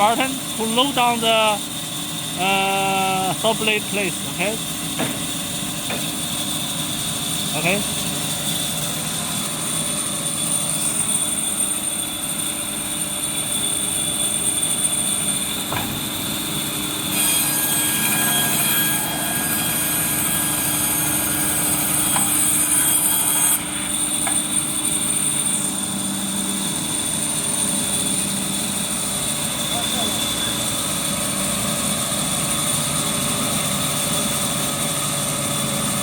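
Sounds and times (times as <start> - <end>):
band saw whining: 0.0 - 36.0
saw blade cutting wood: 0.0 - 36.0.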